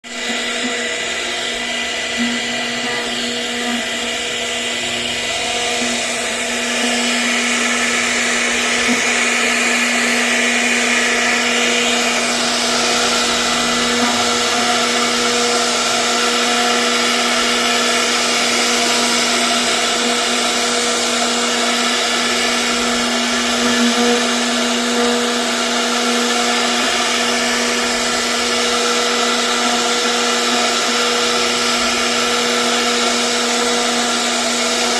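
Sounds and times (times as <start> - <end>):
router spindle whining: 0.0 - 34.9
hiss of cutting wood: 0.2 - 34.9.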